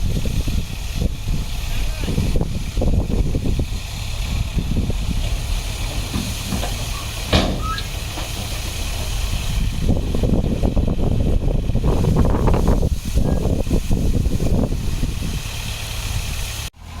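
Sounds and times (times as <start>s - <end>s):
diesel earthmoving equipment rumbling: 0.0s - 17.0s.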